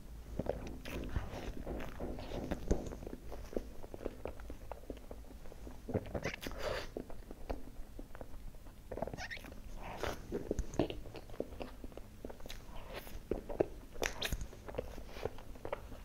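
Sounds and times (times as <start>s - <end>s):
wet smacking and chewing: 0.4s - 16.0s.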